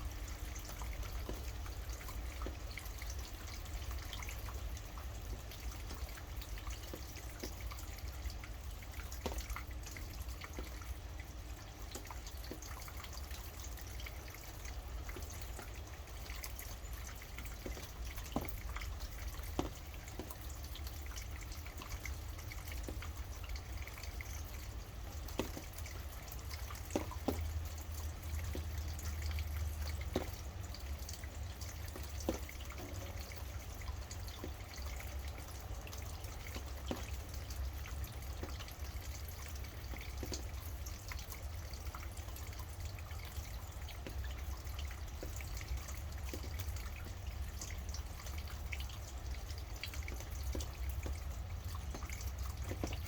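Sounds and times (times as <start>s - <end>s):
sharp water drips: 0.0s - 53.0s
steady rain: 0.0s - 53.0s.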